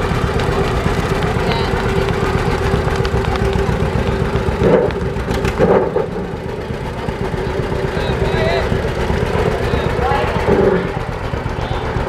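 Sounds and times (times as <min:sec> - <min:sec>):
tractor engine putt-putt: 0:00.0 - 0:12.0.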